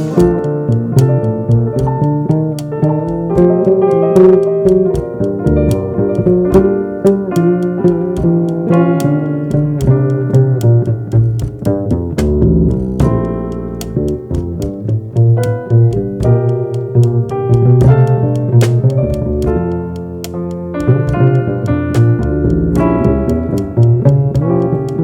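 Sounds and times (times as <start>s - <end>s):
plucked bass line: 0.0s - 25.0s.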